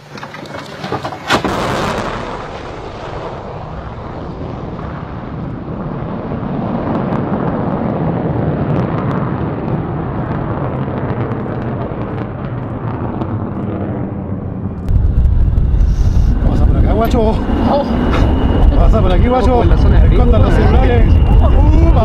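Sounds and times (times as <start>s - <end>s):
jet engine roaring: 0.0s - 22.0s.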